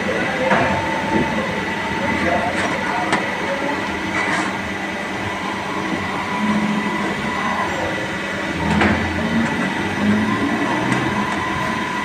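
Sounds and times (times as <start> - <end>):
mechanical running whine: 0.0 - 12.0.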